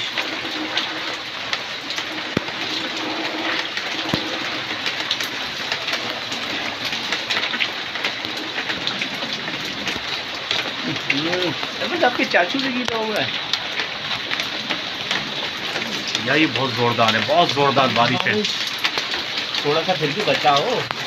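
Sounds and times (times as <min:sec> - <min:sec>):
heavy rain pouring: 0:00.0 - 0:21.0
raindrops ticking and splashing: 0:00.0 - 0:21.0.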